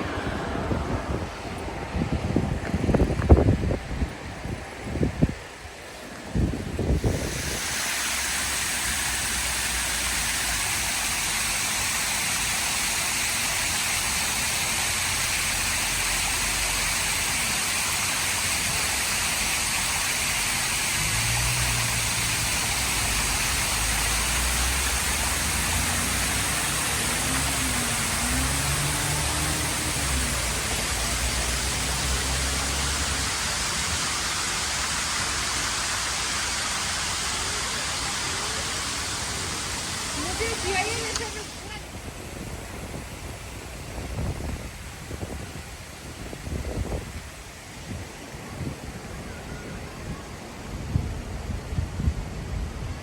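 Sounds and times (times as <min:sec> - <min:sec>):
steady rushing noise: 0:00.0 - 0:48.8.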